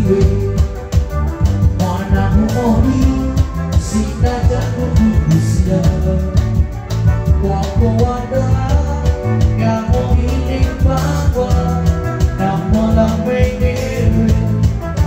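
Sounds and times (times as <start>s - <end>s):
bass line: 0.0s - 15.0s
drum beat: 0.0s - 15.0s.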